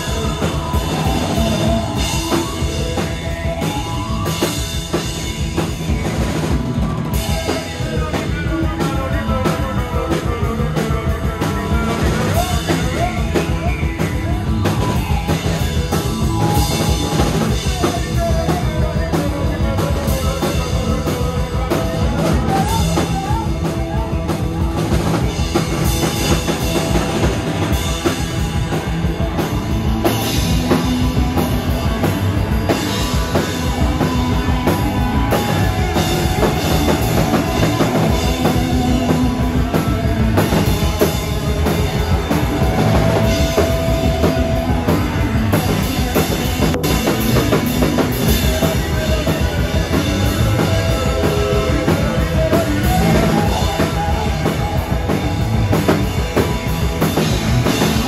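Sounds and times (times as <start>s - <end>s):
drum kit beat: 0.0s - 58.0s
electric bass: 0.0s - 58.0s
electric guitar: 0.0s - 58.0s
keyboards: 0.0s - 58.0s.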